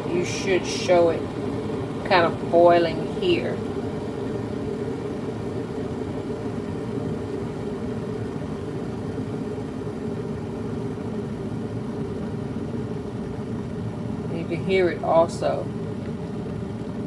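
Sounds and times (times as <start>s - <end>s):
electric kettle boiling water: 0.0s - 17.0s.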